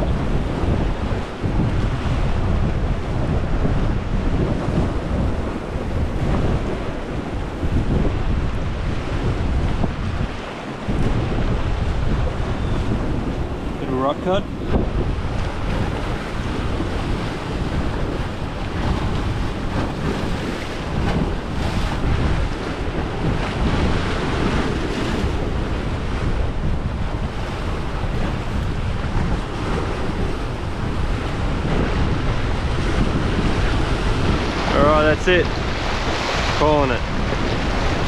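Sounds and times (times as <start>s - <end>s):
waves breaking over rocks: 0.0s - 38.0s
wind buffeting microphone: 0.0s - 38.0s.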